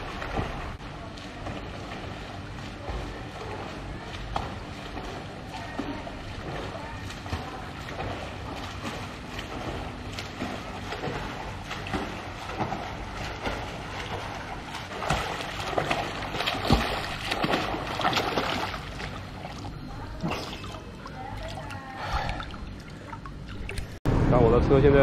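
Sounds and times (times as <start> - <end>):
pool water splashing: 0.0 - 24.0.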